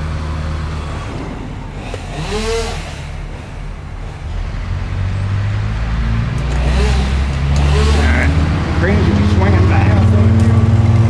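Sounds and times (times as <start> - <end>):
crane engine running: 0.0 - 11.0.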